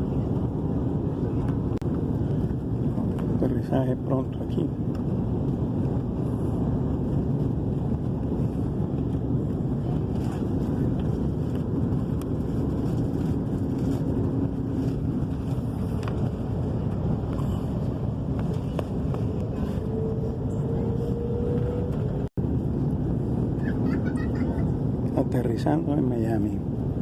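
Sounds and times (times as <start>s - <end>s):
airplane cabin airflow and engine: 0.0s - 27.0s.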